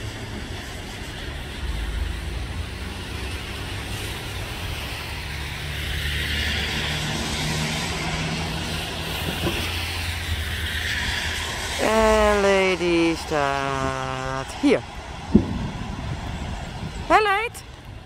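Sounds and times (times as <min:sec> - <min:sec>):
car engines humming: 0:00.0 - 0:18.0.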